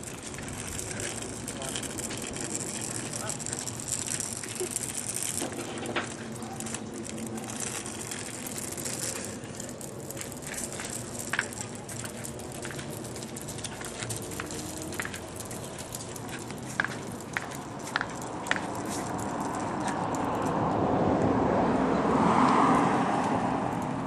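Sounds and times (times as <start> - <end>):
toy stroller wheels rolling on concrete: 0.0 - 24.0.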